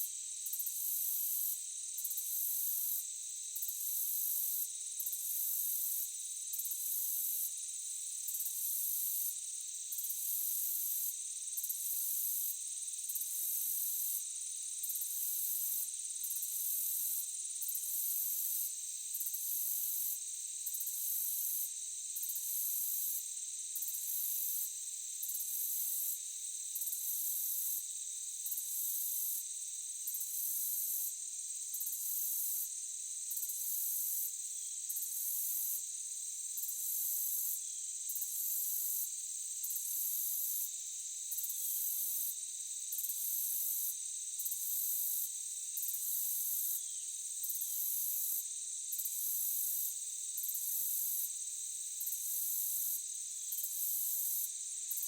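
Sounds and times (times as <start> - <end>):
insects droning: 9.1 - 55.0.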